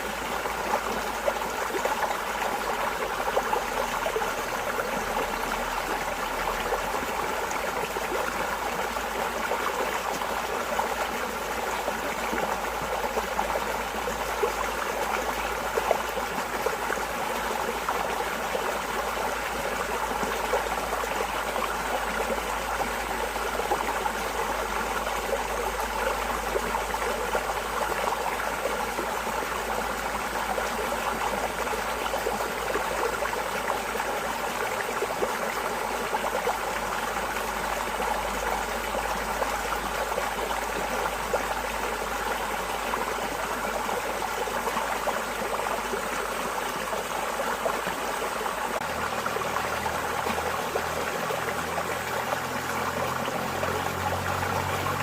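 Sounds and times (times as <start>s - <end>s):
water trickling and babbling: 0.0s - 55.0s.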